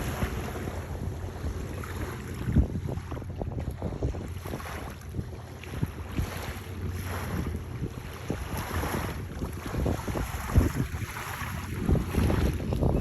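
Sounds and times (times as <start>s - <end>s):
low rumble: 0.0s - 13.0s
wind buffeting microphone: 0.0s - 13.0s.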